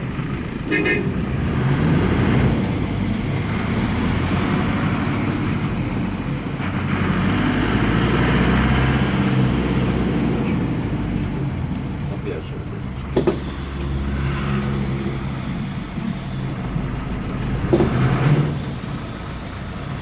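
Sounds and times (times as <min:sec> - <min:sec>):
diesel engine running: 0:00.0 - 0:20.0
road noise: 0:00.0 - 0:20.0.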